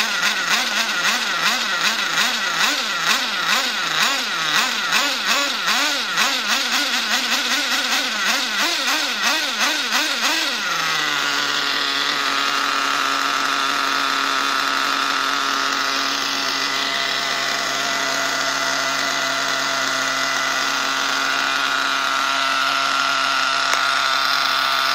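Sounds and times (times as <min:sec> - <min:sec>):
small nitro engine revving and idling: 0:00.0 - 0:24.9.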